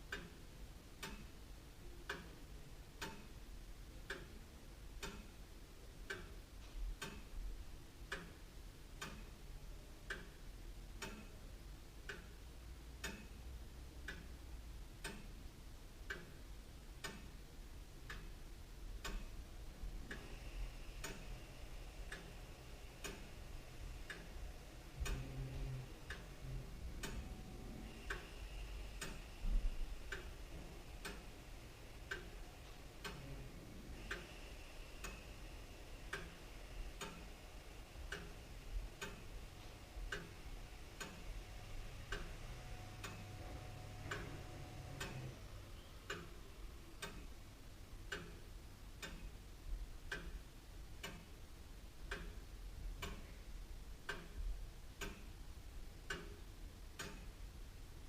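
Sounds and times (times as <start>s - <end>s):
clock ticking: 0.0s - 3.4s, 4.0s - 14.4s, 15.0s - 57.4s.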